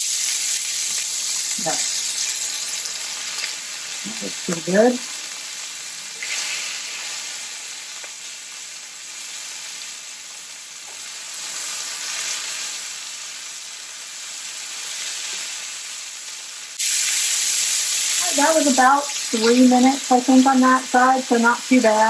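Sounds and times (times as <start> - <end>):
steaks sizzling in oil: 0.0 - 22.0.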